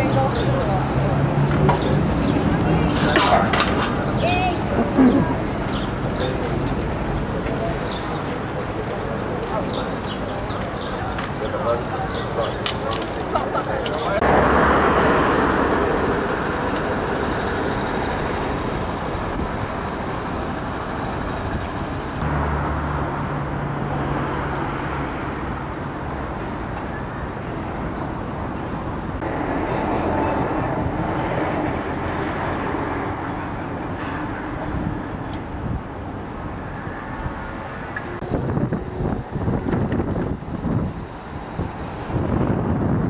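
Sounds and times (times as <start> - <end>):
road traffic rumble and hiss: 0.0 - 43.0.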